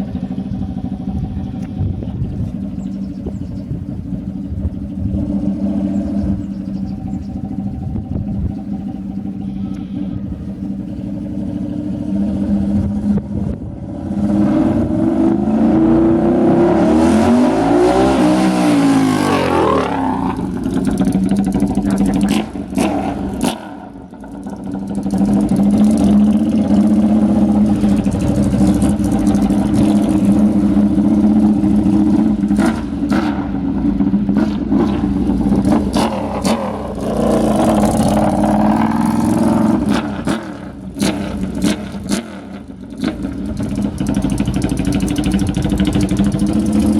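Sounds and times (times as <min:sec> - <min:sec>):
motorcycle engine running loud: 0:00.0 - 0:46.9.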